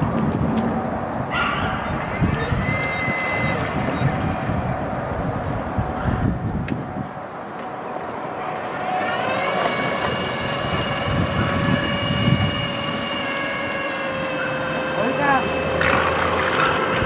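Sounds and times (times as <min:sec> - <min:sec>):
electric outboard motor whining: 0:00.0 - 0:17.0
low rumbling noise: 0:00.0 - 0:17.0.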